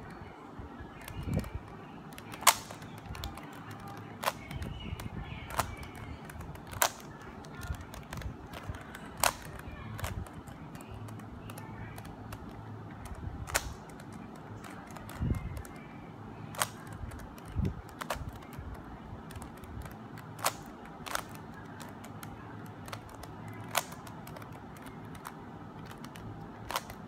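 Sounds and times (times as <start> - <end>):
puzzle cube plastic clicking: 0.9 - 27.0.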